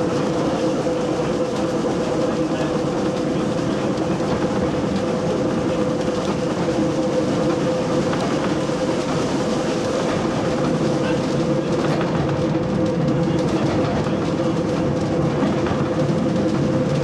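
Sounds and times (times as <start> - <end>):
constant hum: 0.0 - 17.0
train wheels rumbling: 0.0 - 17.0.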